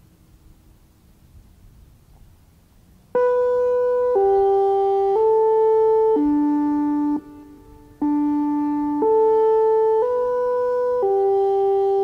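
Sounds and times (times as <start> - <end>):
faint low rumble: 0.0 - 12.0
faint steady hum: 0.0 - 12.0.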